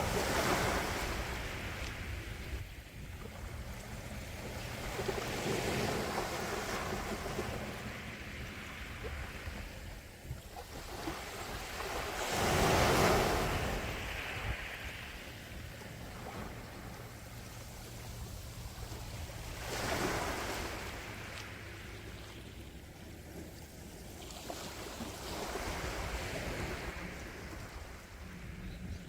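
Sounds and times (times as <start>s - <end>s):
sea waves washing ashore: 0.0s - 29.0s
wind rumble on microphone: 0.0s - 29.0s.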